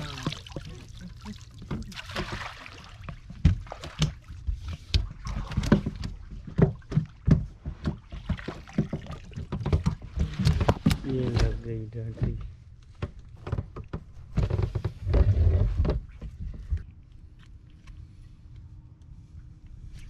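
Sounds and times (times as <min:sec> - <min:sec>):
boat engine humming: 0:00.0 - 0:19.9.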